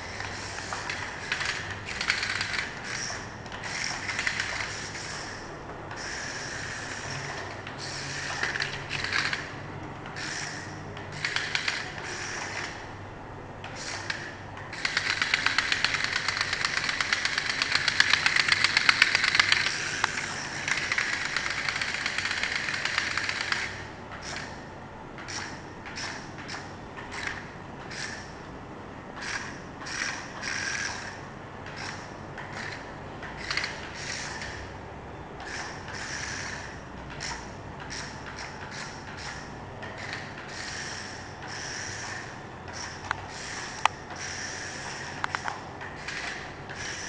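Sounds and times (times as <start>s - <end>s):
toy car motor whirring: 0.0s - 9.5s, 10.1s - 12.8s, 13.8s - 24.6s, 25.3s - 28.3s, 29.2s - 34.6s, 35.4s - 47.0s.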